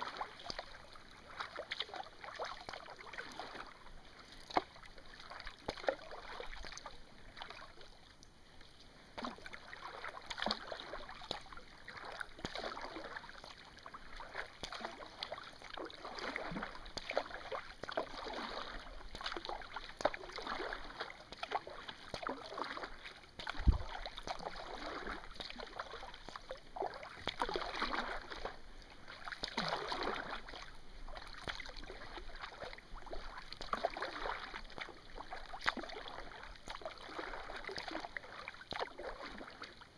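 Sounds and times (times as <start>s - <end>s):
water dripping off paddle blades: 0.0s - 39.8s
kayak paddle strokes in water: 0.0s - 39.9s.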